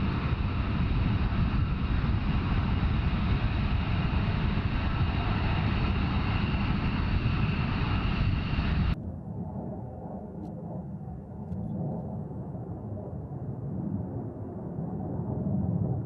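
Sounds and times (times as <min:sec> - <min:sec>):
jet engine rumbling: 0:00.0 - 0:16.0.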